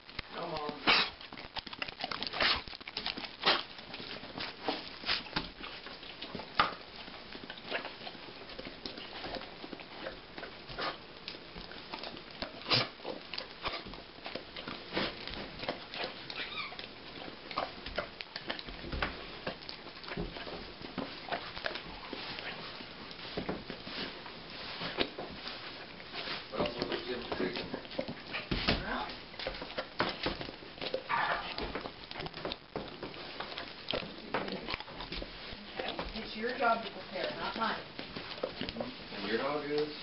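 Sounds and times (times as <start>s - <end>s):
puppy licking and lip-smacking: 0.0s - 40.0s.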